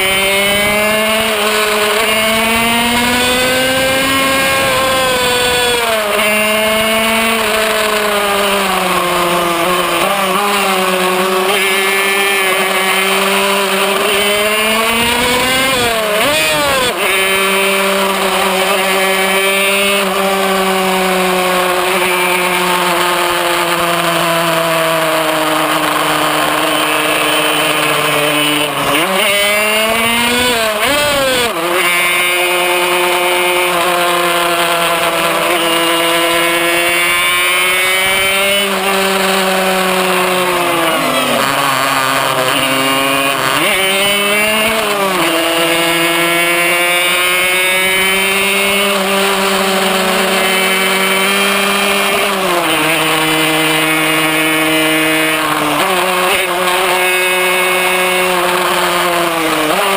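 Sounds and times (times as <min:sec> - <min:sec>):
two-stroke engine revving high: 0:00.0 - 0:59.9.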